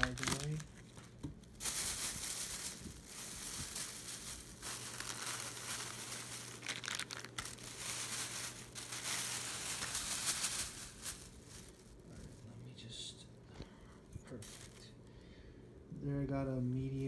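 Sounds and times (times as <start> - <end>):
plastic crinkling: 0.0 - 15.1.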